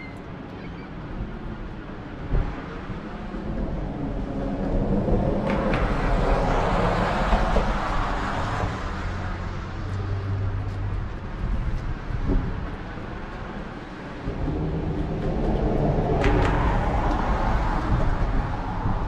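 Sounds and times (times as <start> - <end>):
low engine hum: 1.2 - 19.0
vehicle passing on road: 2.4 - 19.0.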